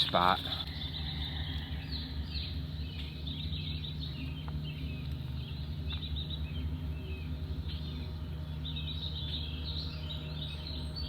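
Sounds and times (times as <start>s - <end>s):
low outdoor rumble: 0.0s - 11.0s
songbirds chirping: 0.0s - 11.0s.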